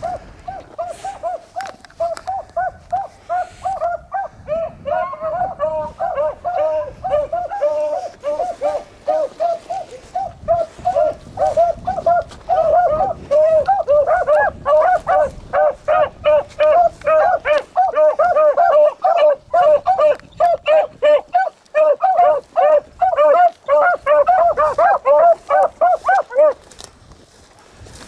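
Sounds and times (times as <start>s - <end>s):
hounds barking: 0.0s - 26.8s.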